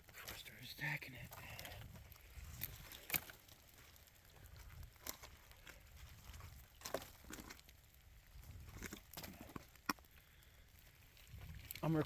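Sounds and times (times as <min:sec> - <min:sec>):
faint wood cracks and clicks: 0:01.2 - 0:12.0.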